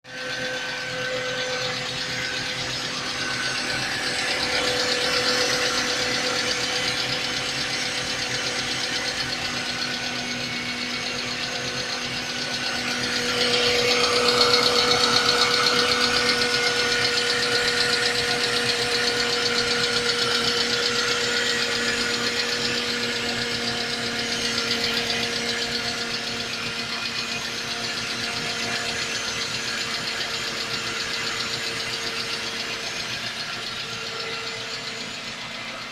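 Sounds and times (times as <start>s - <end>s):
engine knocking: 0.0s - 35.9s
car engine idling: 0.1s - 35.9s.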